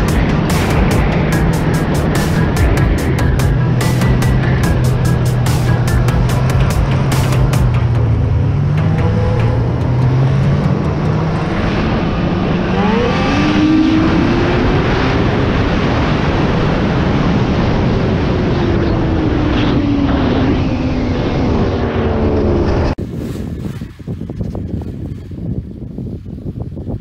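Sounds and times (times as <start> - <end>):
snowmobile engine revving: 0.0 - 23.0
rushing noise: 0.0 - 24.2.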